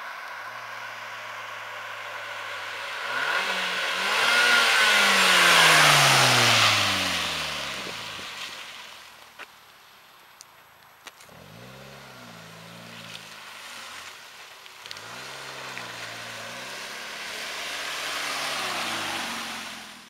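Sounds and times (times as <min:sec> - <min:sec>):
car engine pulling away: 0:00.0 - 0:09.0, 0:11.1 - 0:20.0.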